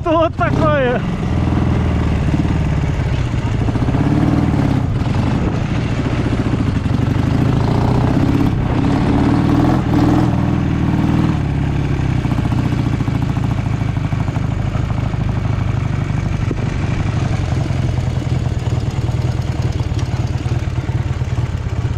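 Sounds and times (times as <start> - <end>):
motorcycle engine revving and idling: 0.0 - 21.9.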